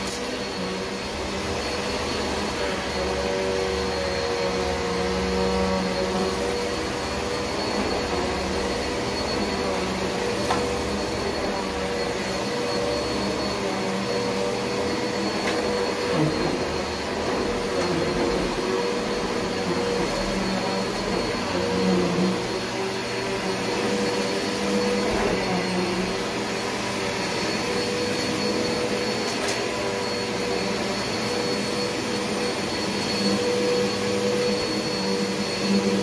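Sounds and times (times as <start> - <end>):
vacuum cleaner running on carpet: 0.0 - 36.0.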